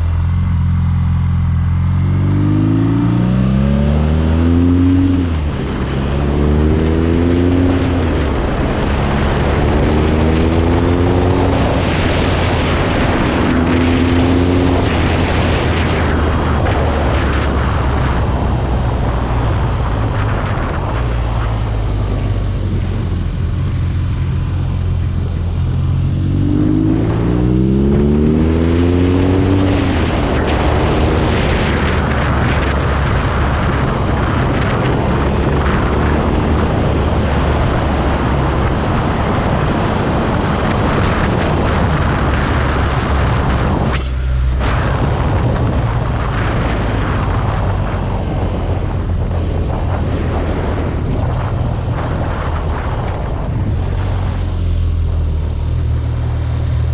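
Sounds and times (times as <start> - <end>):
motorcycle engine accelerating: 0.0 - 56.9
wind rushing over microphone: 0.0 - 56.9.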